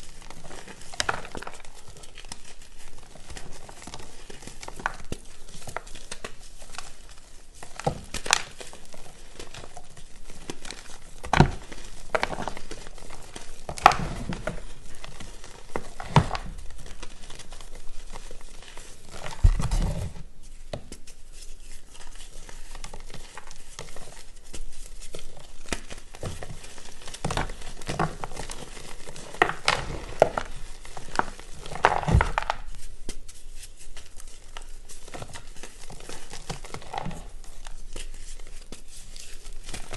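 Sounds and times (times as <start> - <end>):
chalk crunching and crumbling: 0.0 - 39.9.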